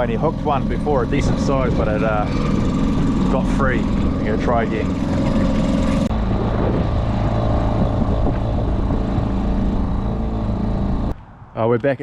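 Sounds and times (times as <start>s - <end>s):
outboard motor running: 0.0s - 11.1s
wind and water rushing: 0.5s - 11.5s.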